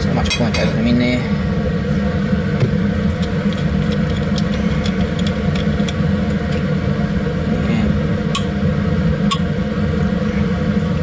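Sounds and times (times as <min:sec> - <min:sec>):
blower fan hum: 0:00.0 - 0:11.0.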